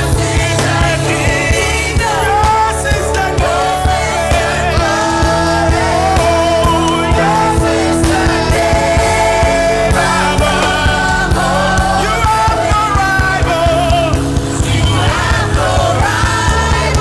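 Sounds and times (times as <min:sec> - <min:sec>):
band with drums and chords: 0:00.0 - 0:17.0
voices singing: 0:00.0 - 0:17.0.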